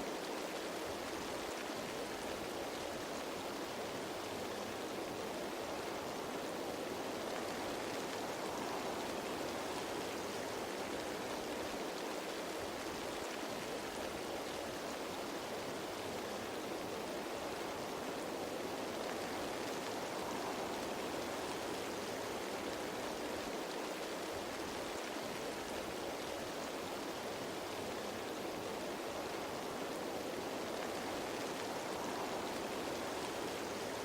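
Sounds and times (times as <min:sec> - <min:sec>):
rain on leaves: 0:00.0 - 0:34.0.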